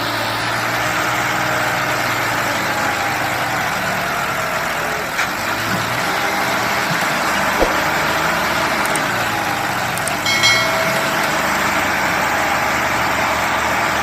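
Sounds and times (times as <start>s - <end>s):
tractor diesel engines running: 0.0s - 14.0s.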